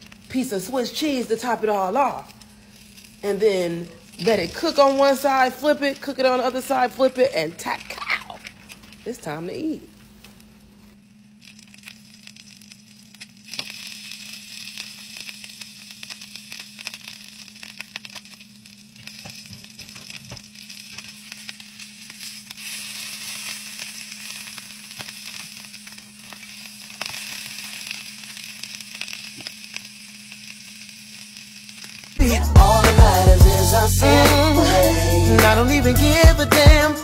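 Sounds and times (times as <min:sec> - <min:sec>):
butter sizzling in a frying pan: 0:00.0 - 0:37.0.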